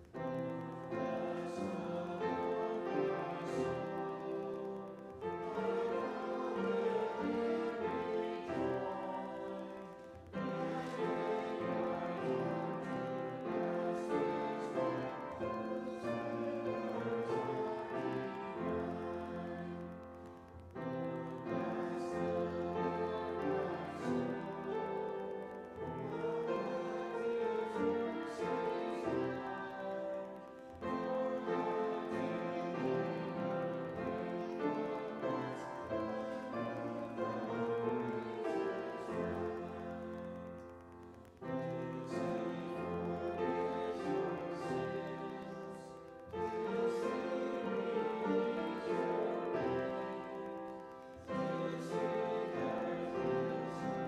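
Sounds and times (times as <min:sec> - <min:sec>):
church piano music: 0:00.0 - 0:54.0.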